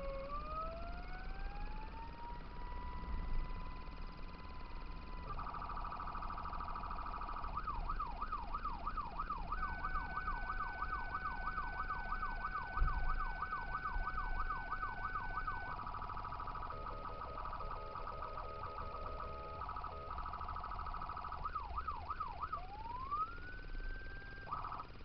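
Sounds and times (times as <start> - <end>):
fire engine electronic sirens: 0.0 - 25.0
steady high siren tone: 0.0 - 25.0.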